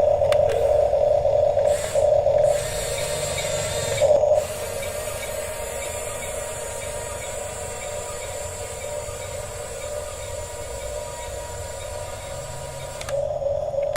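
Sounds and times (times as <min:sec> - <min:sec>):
toy bulldozer motors whining: 0:01.5 - 0:13.9.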